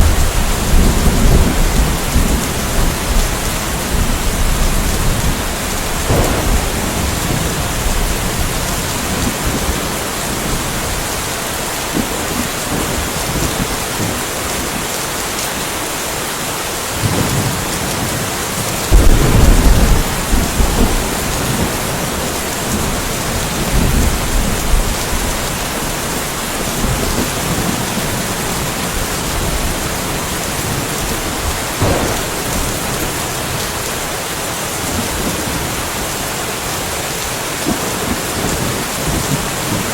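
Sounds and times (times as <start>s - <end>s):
rolling thunder: 0.0s - 14.8s, 17.0s - 34.2s
steady rain falling: 0.0s - 39.9s.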